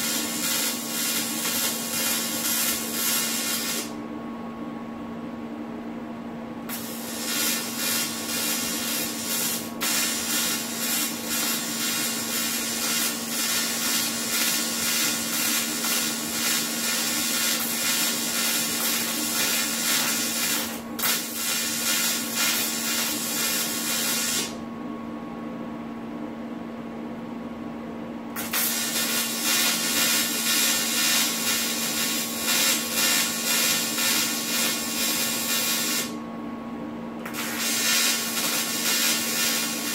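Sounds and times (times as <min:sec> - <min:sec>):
arc welding crackling hiss: 0:00.0 - 0:03.9, 0:06.7 - 0:24.6, 0:28.4 - 0:36.2, 0:37.3 - 0:39.9
steady electrical hum: 0:00.0 - 0:39.9.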